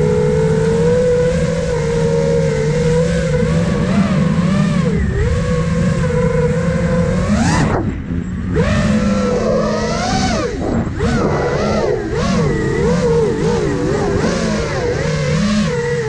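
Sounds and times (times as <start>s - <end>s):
drone motors whining: 0.0s - 16.0s
wind rumble on microphone: 0.0s - 16.0s.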